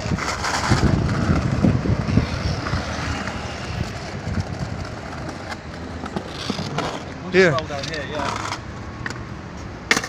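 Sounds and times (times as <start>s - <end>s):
skateboard wheels rolling over paving: 0.0s - 10.0s.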